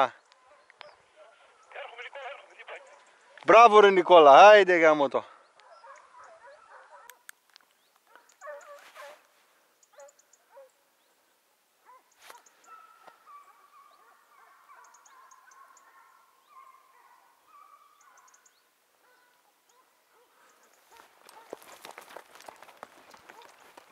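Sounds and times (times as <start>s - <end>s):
distant hounds baying: 0.2s - 3.5s, 5.2s - 7.4s, 8.0s - 11.0s, 11.8s - 23.9s.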